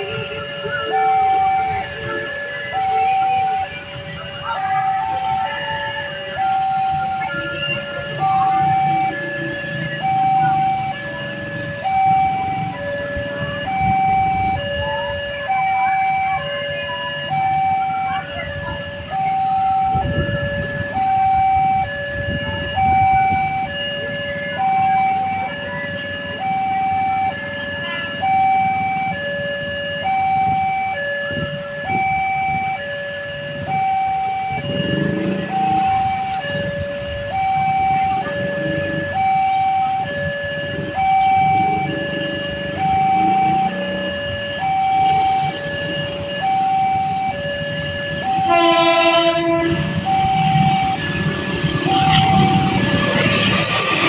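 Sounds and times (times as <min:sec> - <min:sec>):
rumble of road vehicles: 0:00.0 - 0:54.0
two-tone crossing alarm: 0:00.0 - 0:54.0.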